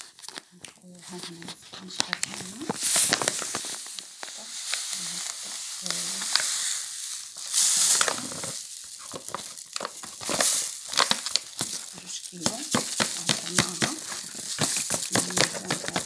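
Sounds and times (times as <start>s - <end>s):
plastic bag crinkling: 0.0s - 16.0s
sugar pouring onto fruit: 2.4s - 16.0s.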